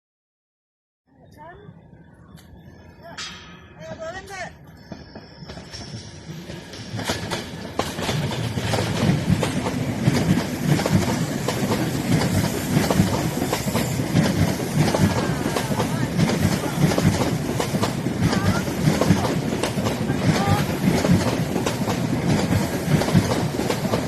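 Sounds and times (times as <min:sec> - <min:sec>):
train rumble: 0:01.3 - 0:24.0
train wheels clattering: 0:03.0 - 0:24.0.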